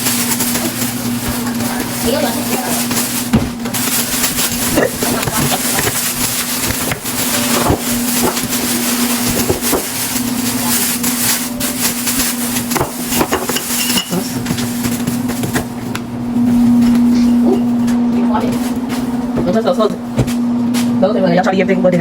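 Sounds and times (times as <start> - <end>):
packages knocking and rustling: 0.0 - 21.0
steady hum: 0.0 - 22.0.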